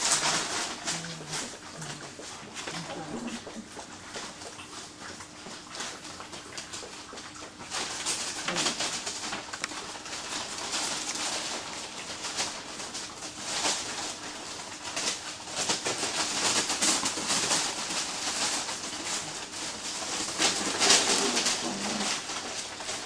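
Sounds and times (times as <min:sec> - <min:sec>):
puppies grunting and cooing: 0:00.0 - 0:13.1, 0:16.0 - 0:23.0
rustle and crinkle of paper: 0:00.0 - 0:23.0.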